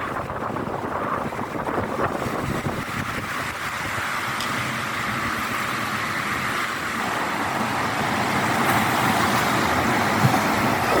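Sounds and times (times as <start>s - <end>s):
sea surging: 0.0s - 11.0s
strong wind: 0.0s - 11.0s.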